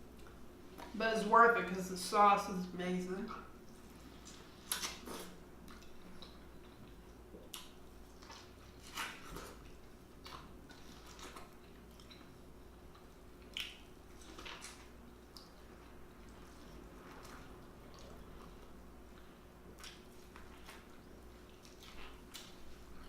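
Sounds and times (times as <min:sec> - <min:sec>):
chewing and mouth smacks: 0:00.1 - 0:00.9, 0:03.7 - 0:23.0.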